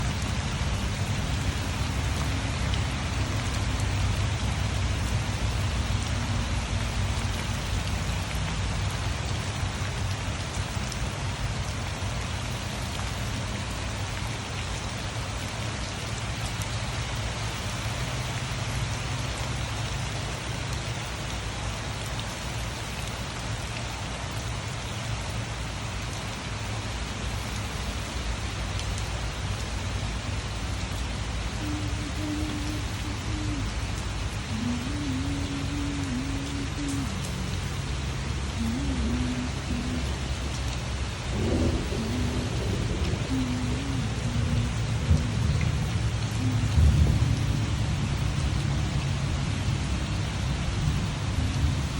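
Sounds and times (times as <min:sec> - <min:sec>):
rain falling steadily: 0:00.0 - 0:51.9.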